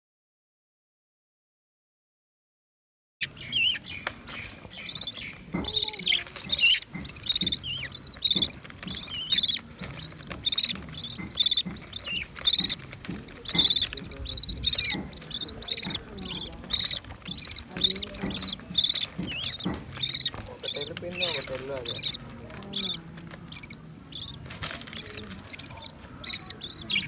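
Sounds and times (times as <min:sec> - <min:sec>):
parrot chicks begging calls: 0:03.2 - 0:27.0.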